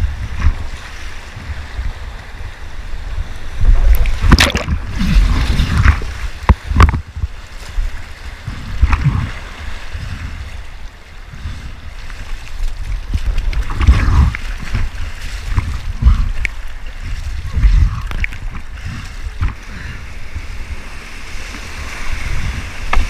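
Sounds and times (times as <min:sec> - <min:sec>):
water surging over microphone: 0:00.0 - 0:23.0
whitewater splashing: 0:03.4 - 0:23.0.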